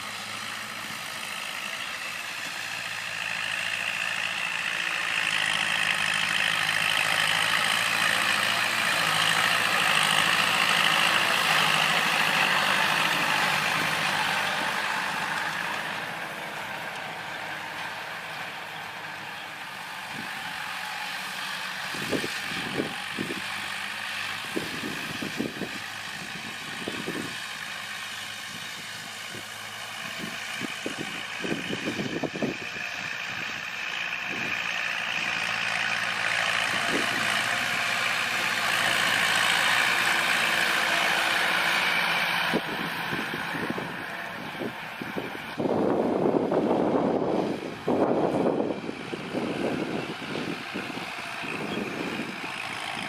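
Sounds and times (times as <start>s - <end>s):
diesel tractor running: 0.0s - 53.0s.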